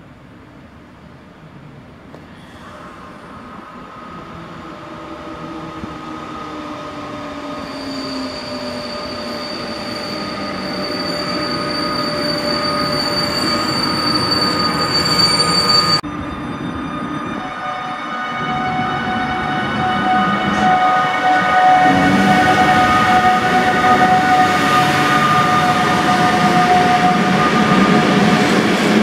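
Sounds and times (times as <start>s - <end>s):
electric locomotive whine: 0.0s - 29.0s
train noise: 0.0s - 29.0s
high-pitched squeal: 2.8s - 29.0s.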